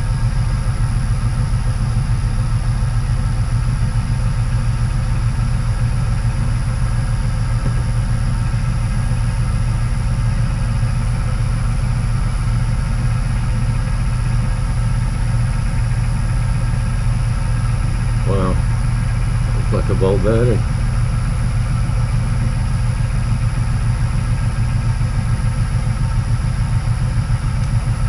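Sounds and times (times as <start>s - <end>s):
lathe motor and gear hum: 0.0s - 28.0s.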